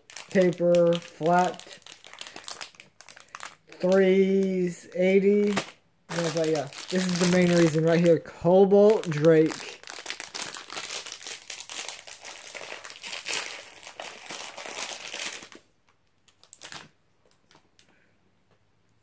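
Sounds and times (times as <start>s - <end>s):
plastic bag crinkling: 0.0s - 15.6s, 16.3s - 17.6s.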